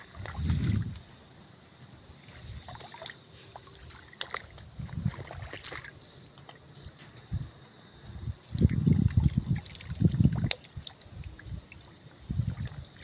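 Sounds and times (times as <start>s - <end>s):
wading through water and mud: 0.0s - 13.0s.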